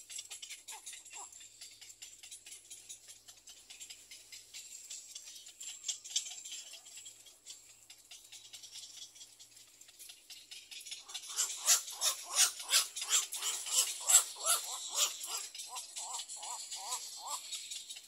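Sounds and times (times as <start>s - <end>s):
nestlings begging chatter: 0.2s - 18.0s.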